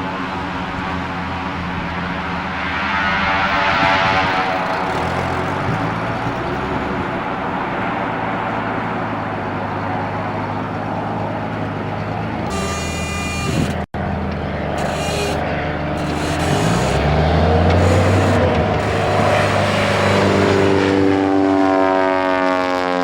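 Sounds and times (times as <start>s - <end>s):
engine running: 0.0s - 22.0s
high whine: 0.0s - 22.0s.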